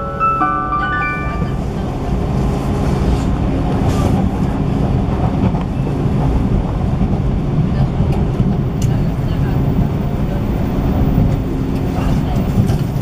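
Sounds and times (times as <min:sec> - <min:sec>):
train interior rumble: 0:00.0 - 0:13.0
wheels on rail: 0:00.0 - 0:13.0.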